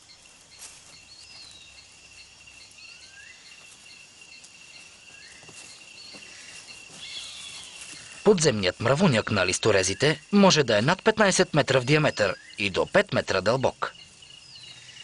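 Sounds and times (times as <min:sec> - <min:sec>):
high chirping: 0:00.0 - 0:15.0
insects trilling: 0:00.0 - 0:15.0.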